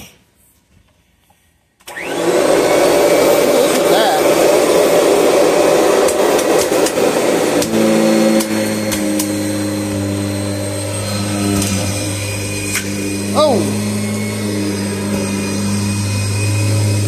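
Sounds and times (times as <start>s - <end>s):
vacuum cleaner running: 1.8s - 17.0s.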